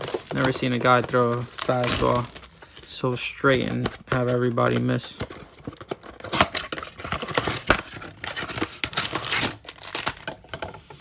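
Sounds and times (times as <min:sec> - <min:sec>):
packaging tearing and crinkling: 0:00.0 - 0:10.4.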